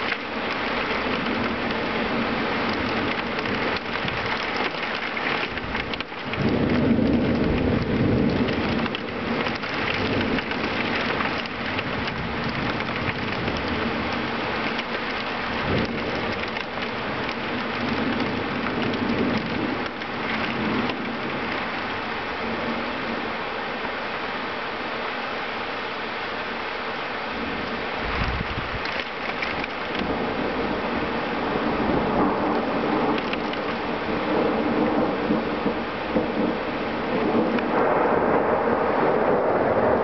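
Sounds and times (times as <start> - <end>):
thunder rolling: 0.0 - 23.2, 27.4 - 40.0
heavy rain hissing: 0.0 - 40.0.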